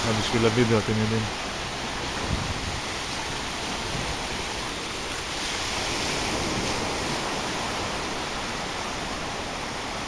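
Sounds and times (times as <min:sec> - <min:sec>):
small waves washing up beach: 0:00.0 - 0:10.0.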